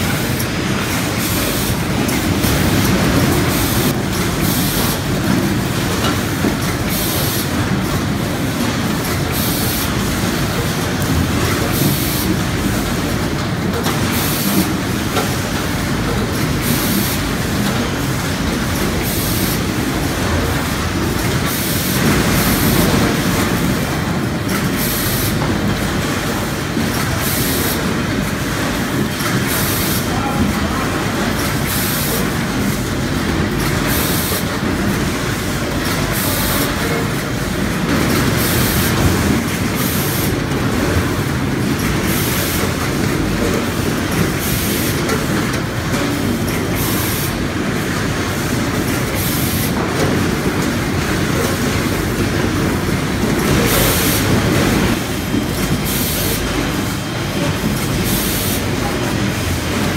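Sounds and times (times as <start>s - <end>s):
conveyor mechanical rumble: 0.0s - 59.9s.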